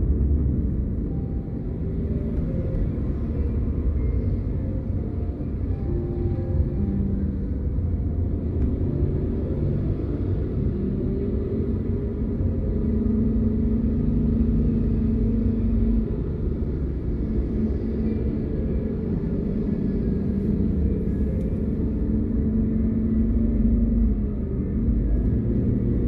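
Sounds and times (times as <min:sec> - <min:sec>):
car road noise rumble: 0:00.0 - 0:26.0
faint engine hum: 0:00.0 - 0:26.0.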